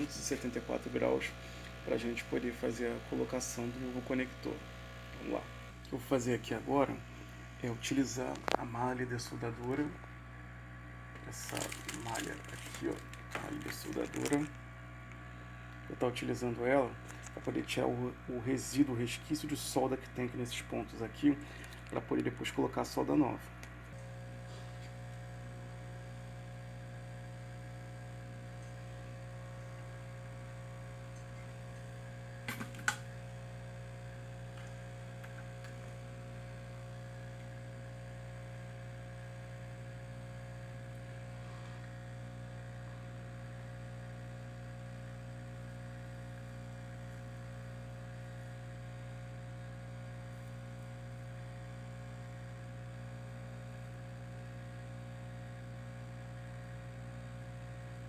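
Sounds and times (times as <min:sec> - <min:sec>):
electrical hum: 0:00.0 - 0:58.0.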